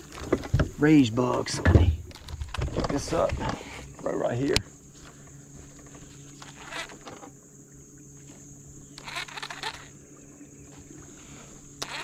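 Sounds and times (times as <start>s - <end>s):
high insect drone: 0.0s - 12.0s
steady low hum: 0.0s - 12.0s.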